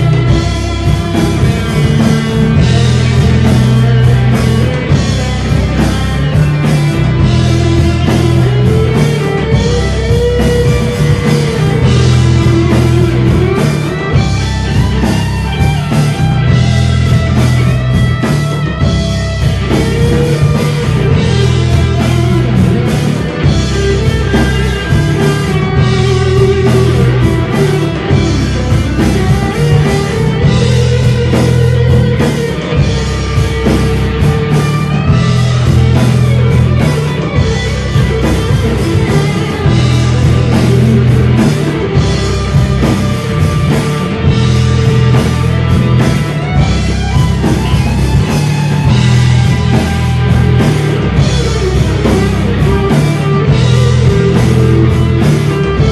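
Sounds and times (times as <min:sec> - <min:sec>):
drum kit: 0:00.0 - 0:55.9
guitar: 0:00.0 - 0:55.9.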